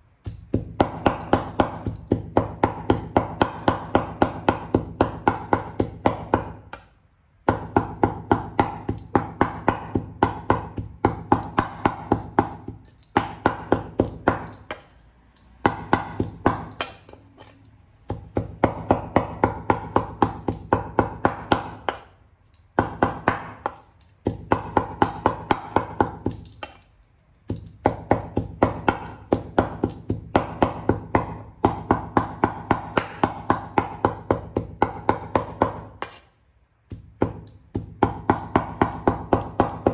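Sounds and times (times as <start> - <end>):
cleaver chopping meat on wood: 0.2 - 14.9, 15.5 - 22.1, 22.7 - 26.8, 27.4 - 39.9.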